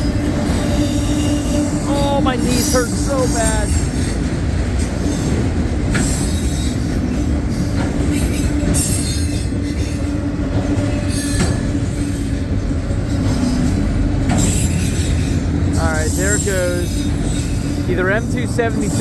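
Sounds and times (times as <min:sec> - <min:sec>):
steel wheels rumbling on rail: 0:00.0 - 0:19.0
wheels clacking over rail joints: 0:00.0 - 0:19.0.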